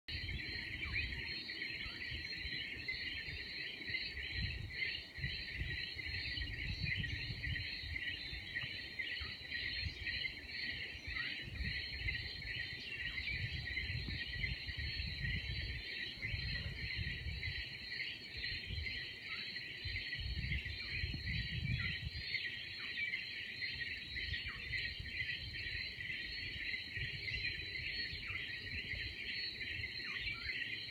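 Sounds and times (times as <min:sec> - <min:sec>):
tree frogs chorus: 0:00.1 - 0:30.9.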